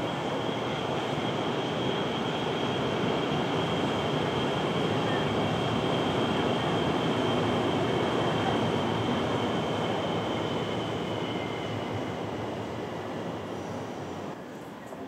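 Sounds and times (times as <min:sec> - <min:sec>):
rail vehicle rumbling past: 0:00.0 - 0:15.0.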